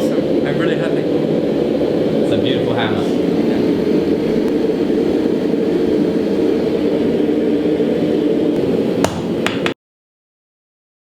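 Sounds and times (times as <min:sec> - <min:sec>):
forge rushing noise: 0:00.0 - 0:09.7.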